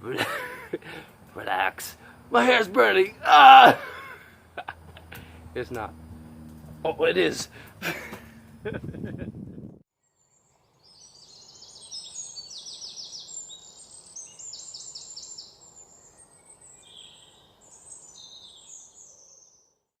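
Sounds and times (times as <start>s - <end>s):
songbirds chirping: 0.0s - 8.8s, 10.1s - 19.9s.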